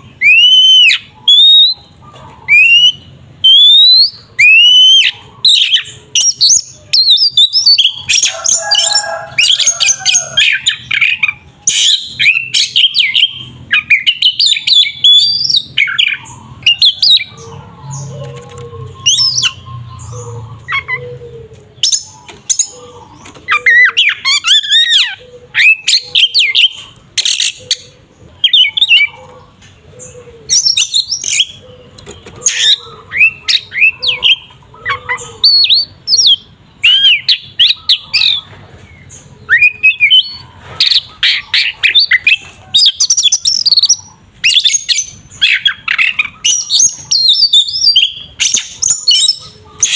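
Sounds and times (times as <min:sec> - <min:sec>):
songbird singing loudly: 0:00.0 - 0:21.2, 0:21.8 - 0:29.3, 0:30.0 - 0:49.9.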